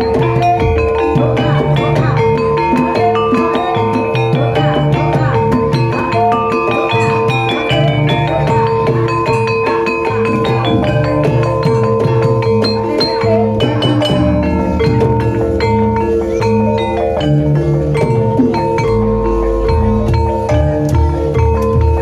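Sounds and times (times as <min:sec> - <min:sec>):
held ringing tone: 0:00.0 - 0:22.0
tuned mallet percussion: 0:00.0 - 0:22.0.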